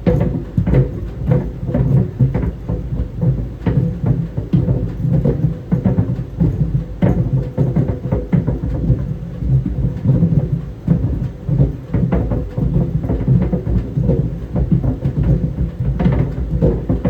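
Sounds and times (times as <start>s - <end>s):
balls thudding in dryer drum: 0.0s - 17.0s
dryer rumble and hum: 0.0s - 17.0s.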